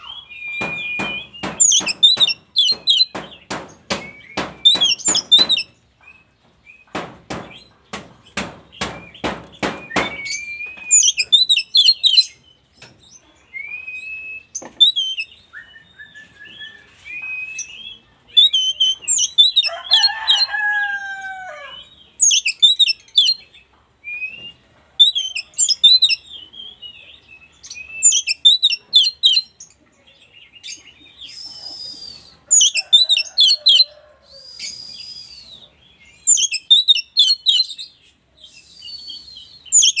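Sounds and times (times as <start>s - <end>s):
bird singing whistles and trills: 0.0s - 7.7s, 8.8s - 20.0s, 22.2s - 29.6s, 30.6s - 40.0s.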